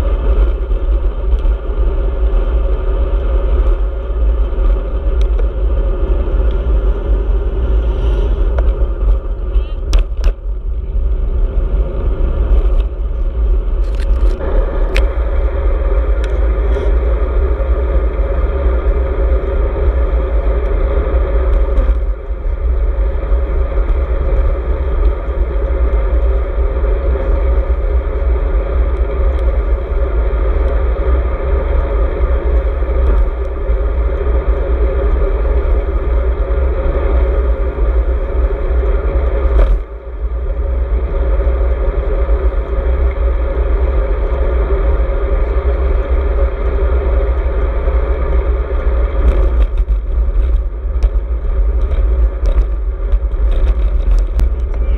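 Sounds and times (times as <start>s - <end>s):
tyre and road noise: 0.0s - 54.9s
wind rumbling on microphone: 0.0s - 54.9s.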